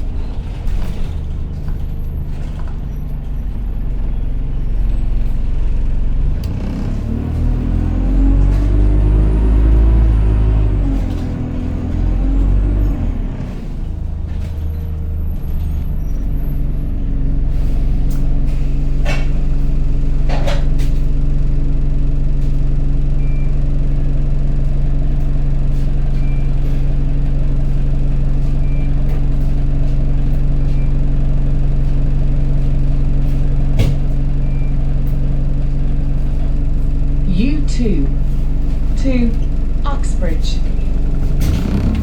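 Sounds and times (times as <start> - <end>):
bus engine hum: 0.0 - 42.0.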